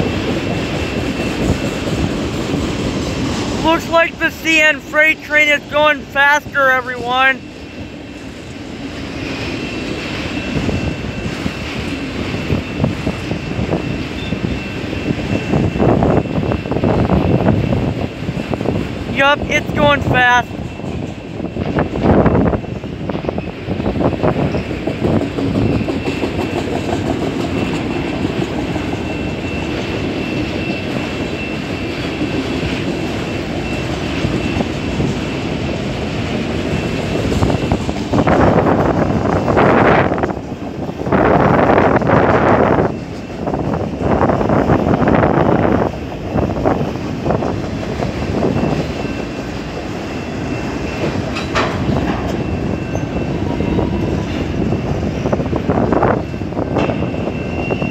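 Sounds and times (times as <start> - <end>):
freight train passing: 0.0 - 57.9.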